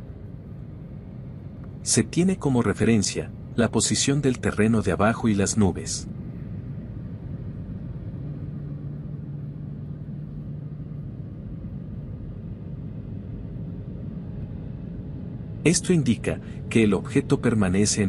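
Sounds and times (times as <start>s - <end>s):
airliner cabin rumble: 0.0s - 18.0s
low hum: 0.0s - 18.0s.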